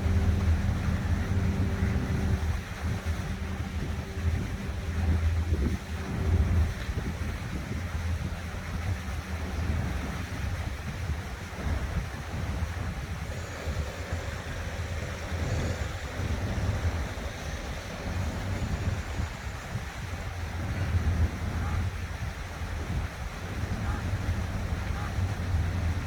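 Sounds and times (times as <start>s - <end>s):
faint steady hum: 0.0s - 26.0s
water fountains splashing: 0.0s - 26.0s
wind buffeting microphone: 0.0s - 26.0s.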